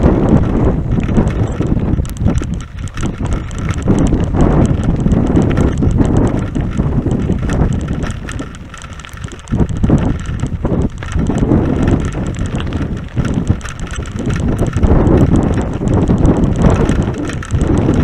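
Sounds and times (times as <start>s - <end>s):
bike clicks and rattles: 0.0s - 18.0s
bike tyres rumbling on rough track: 0.0s - 18.0s
wind buffeting microphone: 0.0s - 18.0s.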